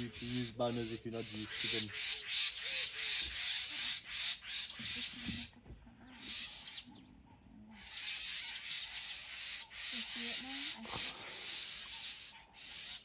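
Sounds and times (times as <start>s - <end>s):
high bird chatter: 0.0s - 13.0s
low gliding bird calls: 0.0s - 13.0s.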